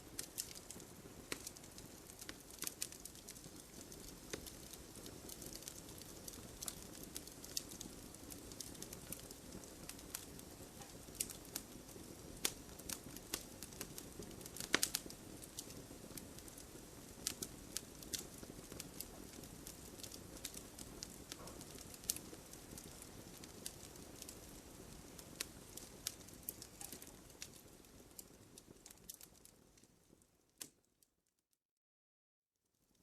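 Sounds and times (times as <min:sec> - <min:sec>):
fire crackling and popping: 0:00.0 - 0:30.9
low rush of flame: 0:00.1 - 0:30.2.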